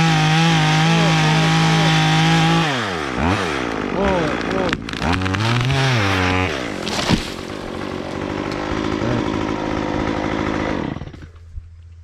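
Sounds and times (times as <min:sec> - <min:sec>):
chainsaw engine running: 0:00.0 - 0:11.5.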